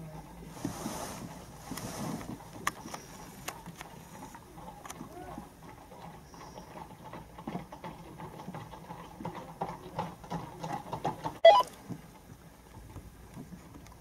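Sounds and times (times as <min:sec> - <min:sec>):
horse hooves on tarmac: 0:02.2 - 0:14.0.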